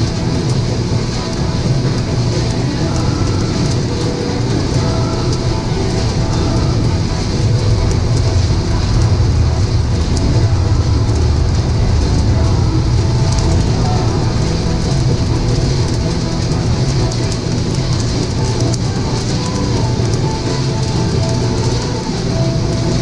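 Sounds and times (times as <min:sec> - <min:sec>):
beans tumbling clicks: 0:00.0 - 0:23.0
coffee roaster humming: 0:00.0 - 0:23.0.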